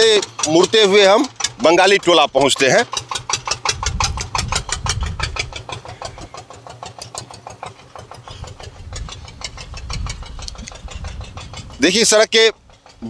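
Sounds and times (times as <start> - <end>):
small engine ticking and rumbling: 0.0 - 13.0.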